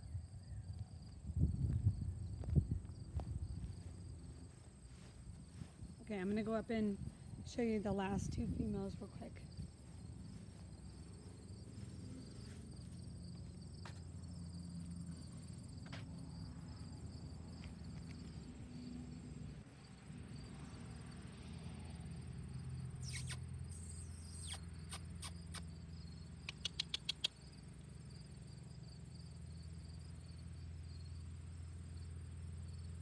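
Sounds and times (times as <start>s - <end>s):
insects chirring: 0.0s - 6.0s, 8.1s - 33.0s.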